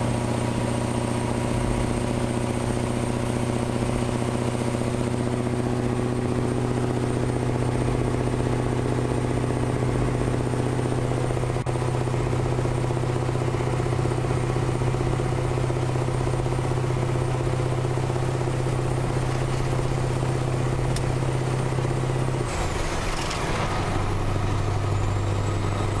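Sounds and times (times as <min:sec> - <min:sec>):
diesel lorry engine droning: 0:00.0 - 0:26.0.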